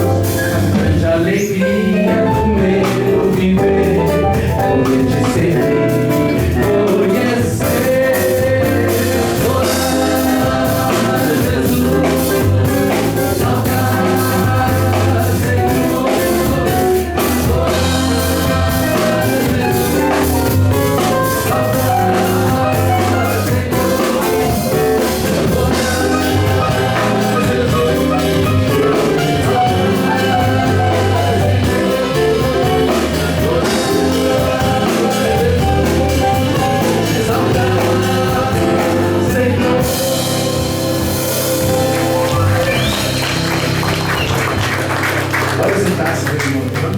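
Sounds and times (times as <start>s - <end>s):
drum kit: 0.0s - 46.9s
electric bass: 0.0s - 46.9s
keyboard: 0.0s - 46.9s.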